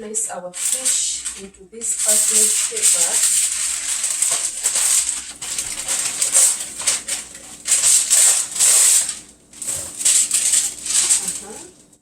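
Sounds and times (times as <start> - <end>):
paper rustling and crinkling: 0.6 - 12.0.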